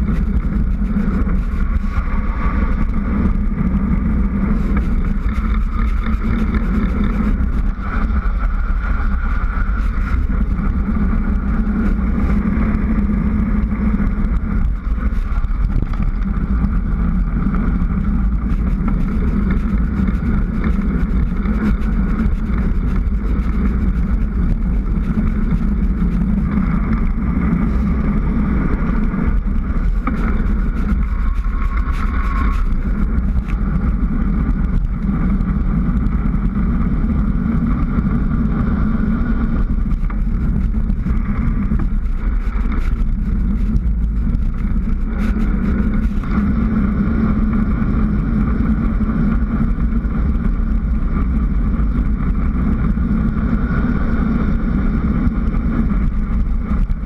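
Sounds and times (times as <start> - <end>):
wind roaring over microphone: 0.0 - 57.0.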